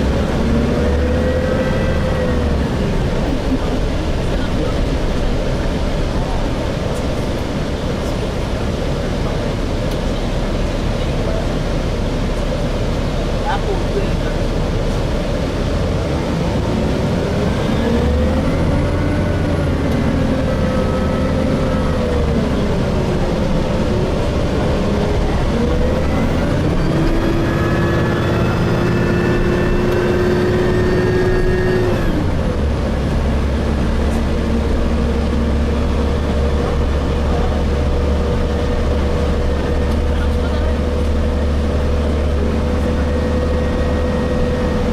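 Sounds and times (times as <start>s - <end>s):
bus engine drone from inside: 0.0s - 44.9s.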